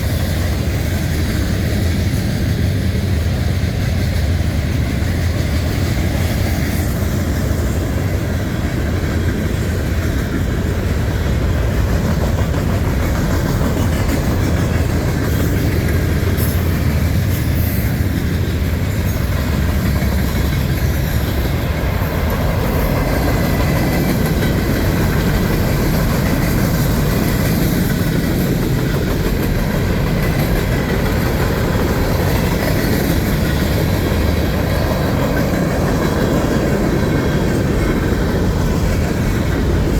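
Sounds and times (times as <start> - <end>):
train cars rumbling past: 0.0 - 39.9
wheels clacking over rail joints: 0.0 - 39.9.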